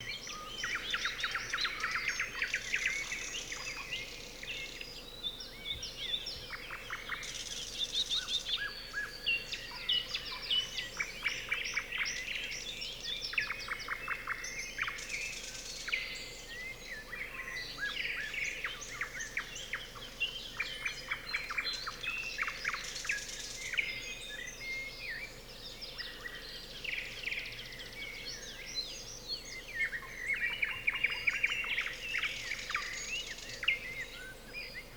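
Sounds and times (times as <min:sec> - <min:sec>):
songbirds chorus: 0:00.0 - 0:34.9.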